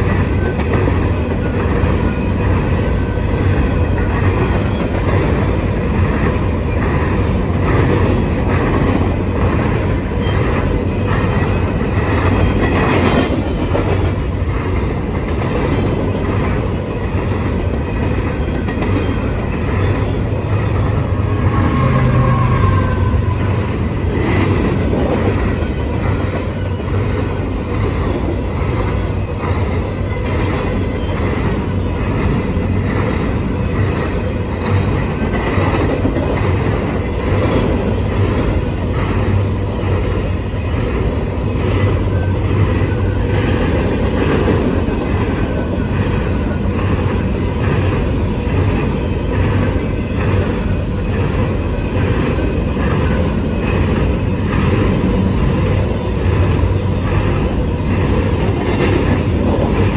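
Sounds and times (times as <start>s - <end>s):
train wheels rumbling on rail: 0.0s - 59.9s
wheels clickety-clack on rail joints: 0.0s - 59.9s.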